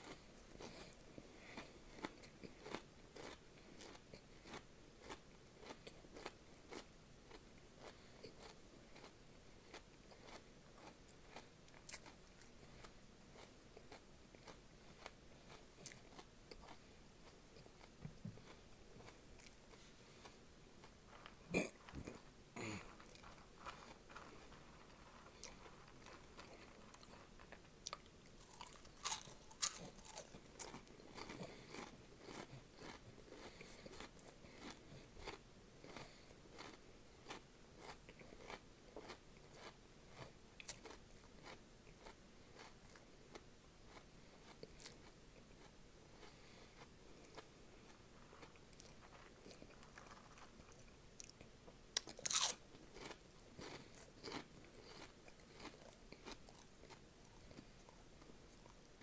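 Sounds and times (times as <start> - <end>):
crunching and chewing snacks: 0.0 - 59.0.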